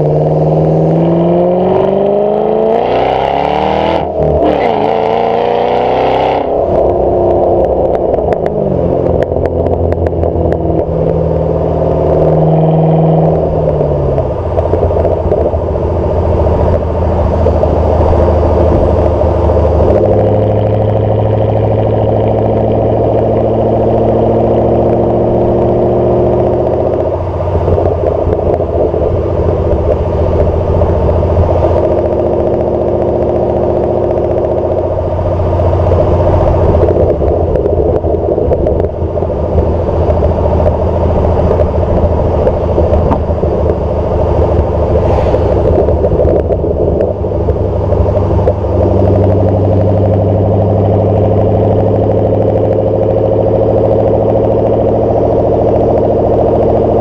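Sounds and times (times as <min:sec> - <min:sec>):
car exhaust accelerating: 0:00.0 - 0:57.0.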